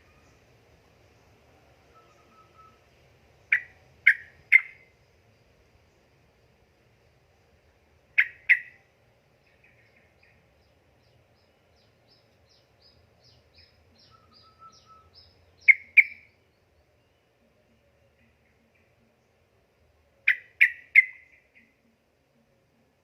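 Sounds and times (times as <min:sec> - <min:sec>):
faint high chirps: 0:00.0 - 0:05.2, 0:08.2 - 0:22.0.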